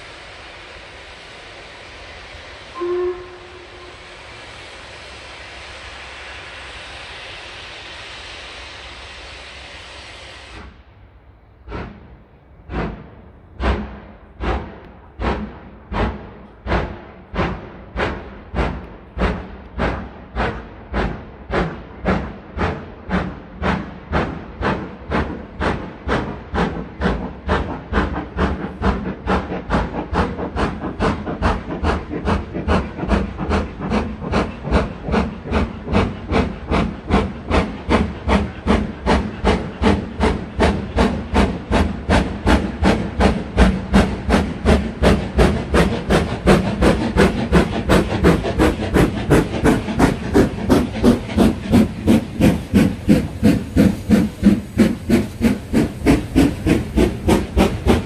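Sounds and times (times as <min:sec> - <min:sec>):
steam hissing: 0:00.0 - 0:10.9, 0:11.7 - 0:58.0
steam locomotive exhaust chuffs: 0:00.0 - 0:58.0.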